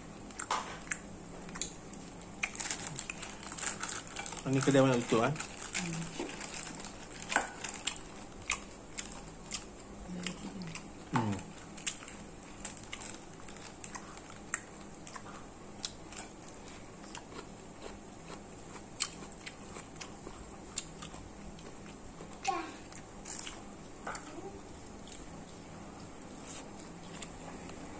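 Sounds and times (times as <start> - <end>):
person chewing food crunchily: 0.0 - 27.9.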